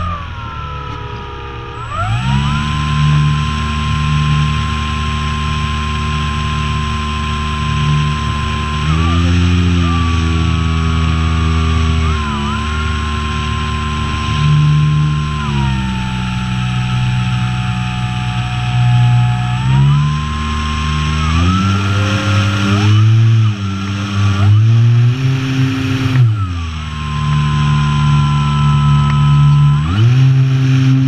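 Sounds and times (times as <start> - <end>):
electric motor and propeller whining: 0.0 - 31.0.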